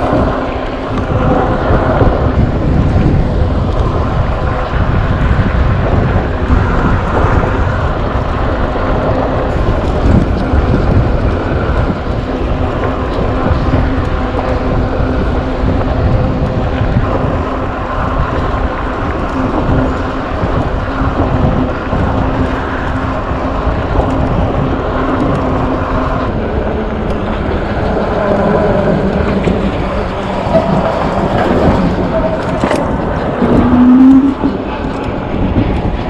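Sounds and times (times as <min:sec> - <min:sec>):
rising whine: 0:00.0 - 0:36.0
wind buffeting microphone: 0:00.0 - 0:36.0.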